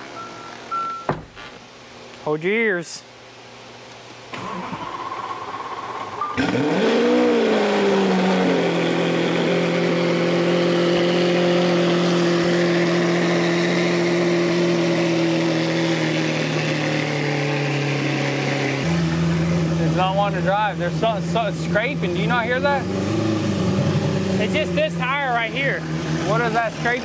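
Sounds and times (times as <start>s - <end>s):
car engine starting and idling: 4.3s - 27.0s.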